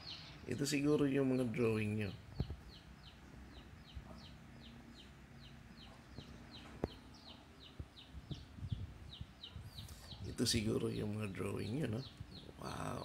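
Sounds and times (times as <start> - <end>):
bird peeping: 0.0 - 13.0.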